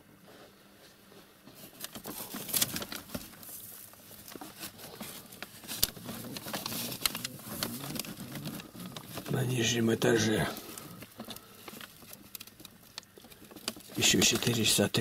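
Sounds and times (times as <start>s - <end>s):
rustling and scrabbling: 1.1s - 15.0s.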